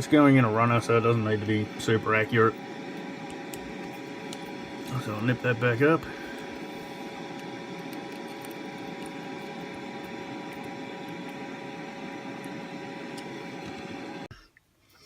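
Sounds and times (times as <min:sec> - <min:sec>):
fan or motor humming: 0:00.0 - 0:14.4.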